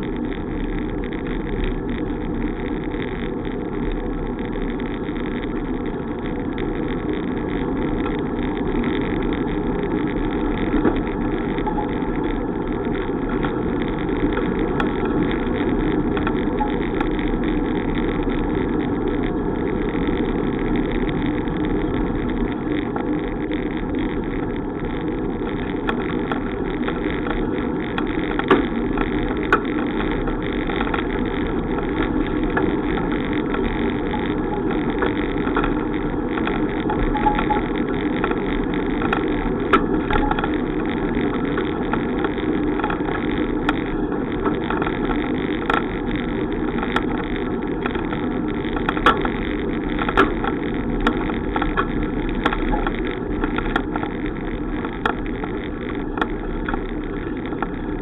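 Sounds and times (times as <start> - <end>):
bicycle road noise: 0.0 - 58.0.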